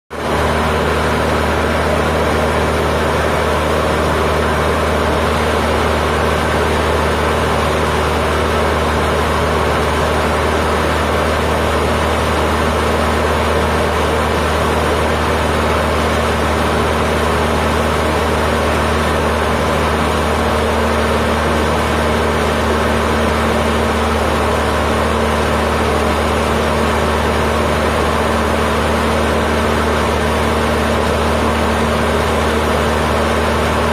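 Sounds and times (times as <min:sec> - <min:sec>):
airplane engine and propeller: 0:00.1 - 0:33.9.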